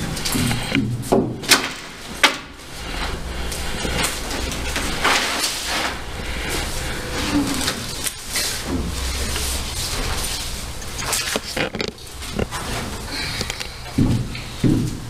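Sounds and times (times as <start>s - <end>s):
props shuffling and rustling: 0.0s - 15.0s
steady low hum: 0.0s - 15.0s.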